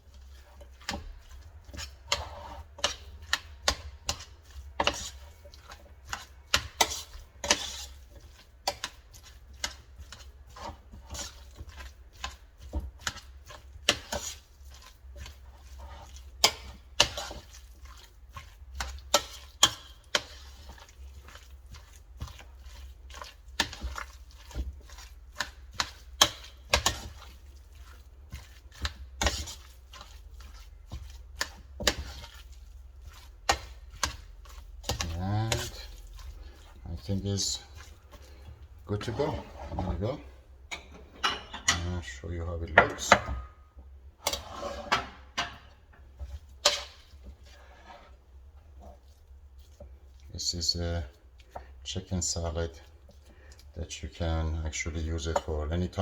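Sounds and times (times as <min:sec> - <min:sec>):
utensil clinking against a bowl: 0:00.5 - 0:39.5, 0:49.0 - 0:56.0.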